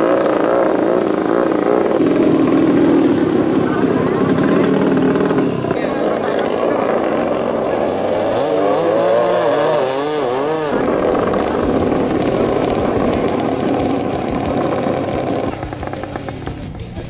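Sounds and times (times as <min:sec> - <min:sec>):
speedboat engine racing: 0:00.0 - 0:17.0.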